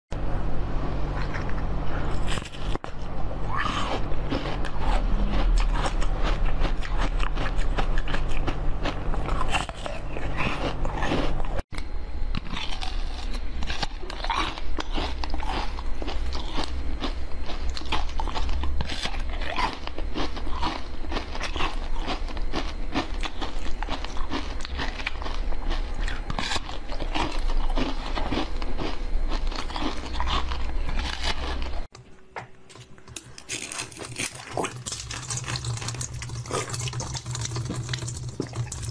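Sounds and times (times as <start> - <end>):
crunching frozen jelly: 1.2 - 31.9, 32.7 - 38.9.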